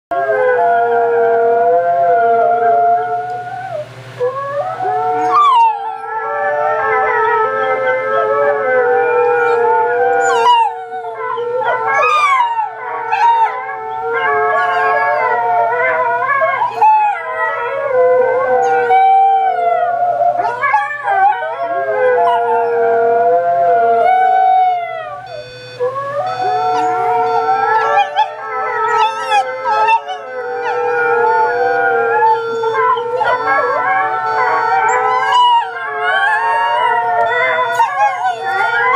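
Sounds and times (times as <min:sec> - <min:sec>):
puppy howling: 0:00.1 - 0:38.9.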